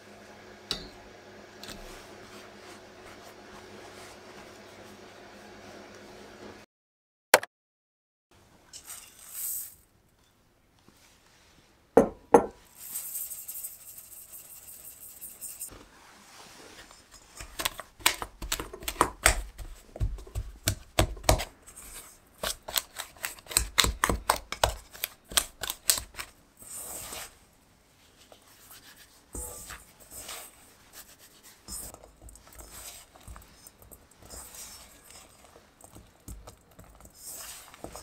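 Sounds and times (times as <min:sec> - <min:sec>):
flour sifting through sieve: 0:01.8 - 0:06.3, 0:08.7 - 0:09.9, 0:12.6 - 0:38.0.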